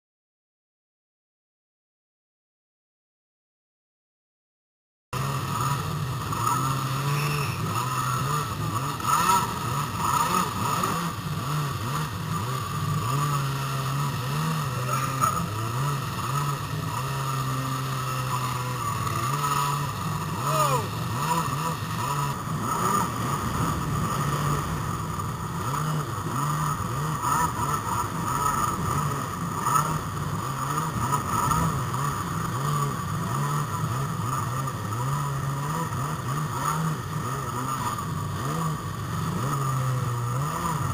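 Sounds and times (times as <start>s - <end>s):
jet ski engine running: 5.2s - 40.9s.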